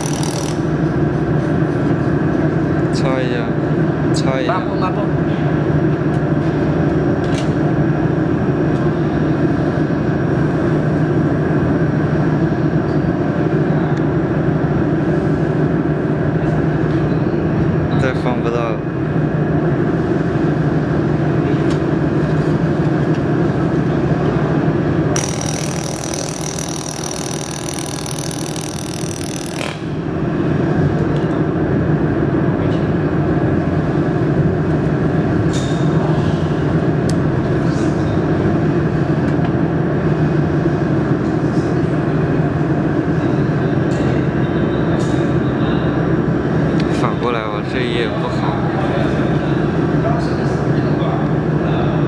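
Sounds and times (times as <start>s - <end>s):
machinery humming: 0.0s - 52.0s.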